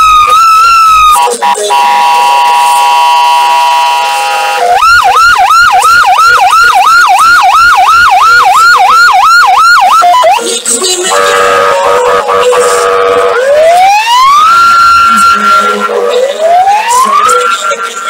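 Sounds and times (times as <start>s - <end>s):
electronic police siren: 0.0s - 10.4s, 11.1s - 18.0s.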